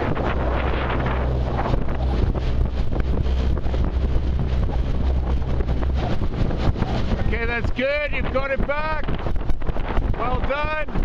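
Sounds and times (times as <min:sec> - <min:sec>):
motor boat engine hum: 0:00.0 - 0:11.0
wind buffeting microphone: 0:00.0 - 0:11.0.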